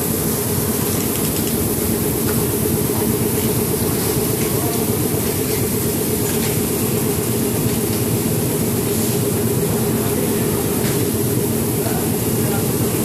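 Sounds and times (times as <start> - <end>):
machinery mechanical drone: 0.0 - 13.0.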